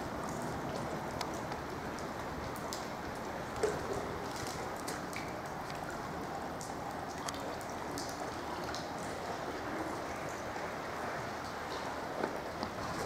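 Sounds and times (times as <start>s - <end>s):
running water: 0.0s - 13.0s
small drips and ticks: 0.0s - 13.0s.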